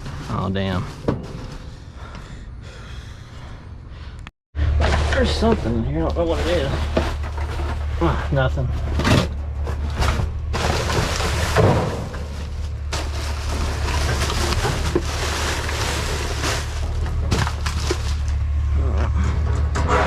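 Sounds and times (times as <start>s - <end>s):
rustling trash bags: 0.0s - 2.1s, 4.6s - 18.7s
steady low hum: 0.0s - 20.0s.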